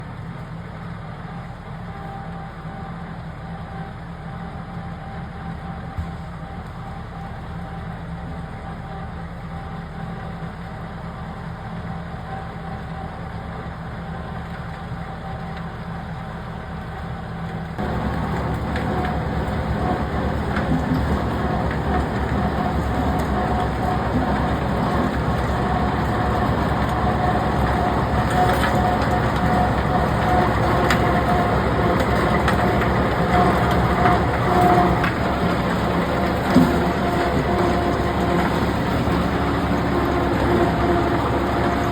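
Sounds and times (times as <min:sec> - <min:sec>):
heavy diesel machinery running: 0:00.0 - 0:41.9.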